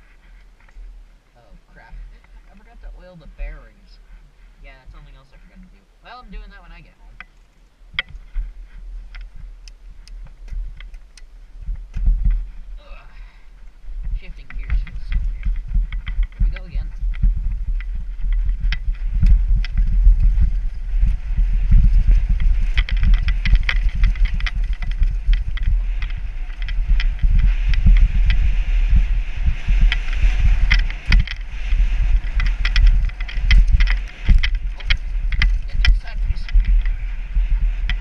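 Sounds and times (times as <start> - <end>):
wind buffeting microphone: 0.0 - 38.0
bicycle rattles and knocks: 7.2 - 38.0.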